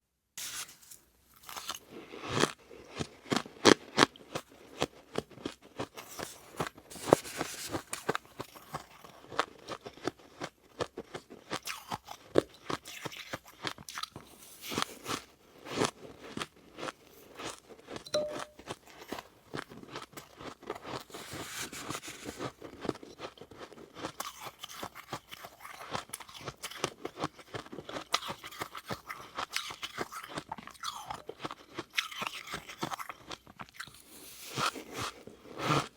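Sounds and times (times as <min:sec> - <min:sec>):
crunching and chewing ice: 0:00.8 - 0:18.0, 0:18.8 - 0:35.9.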